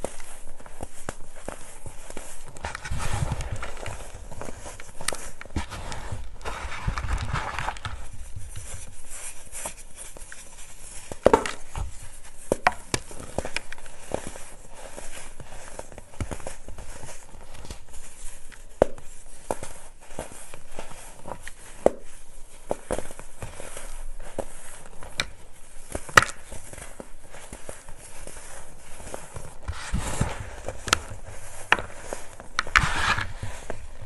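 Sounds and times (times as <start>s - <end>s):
powder sifting through fingers: 0.0s - 34.0s.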